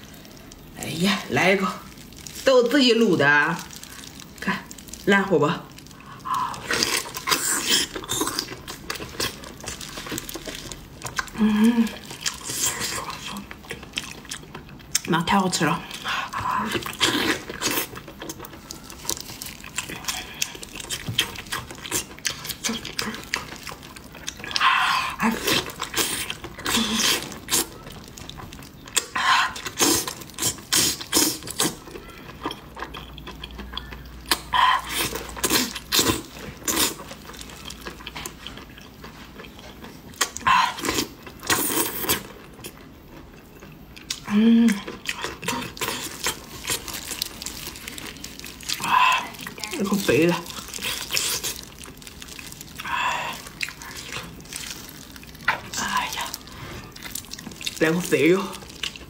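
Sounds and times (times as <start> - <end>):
wet chewing and lip-smacking: 1.8 - 59.0.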